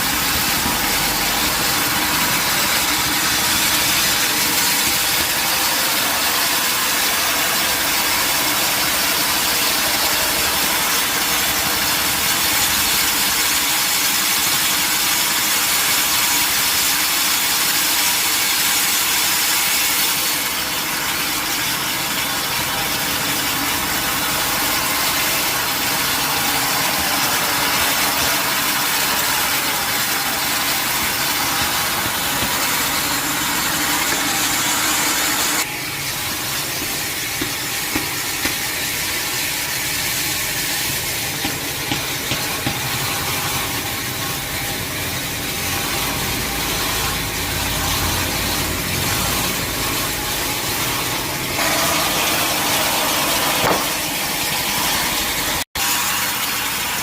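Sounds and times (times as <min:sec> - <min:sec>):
sawmill saw running: 0:00.0 - 0:57.0.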